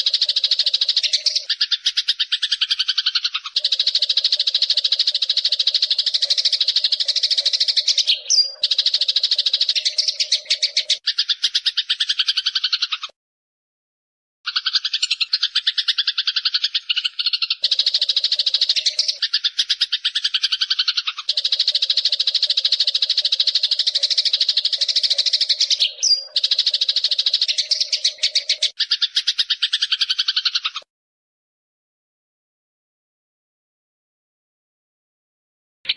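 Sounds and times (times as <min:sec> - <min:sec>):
sparrow chirping: 0:00.0 - 0:13.1, 0:14.5 - 0:30.8.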